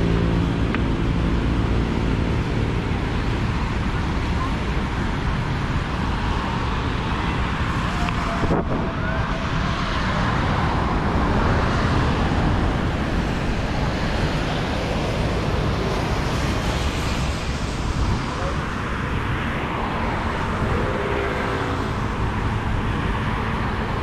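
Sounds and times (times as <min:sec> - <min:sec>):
cars and buses driving past: 0:00.0 - 0:24.0
tyres hissing on wet road: 0:01.2 - 0:24.0.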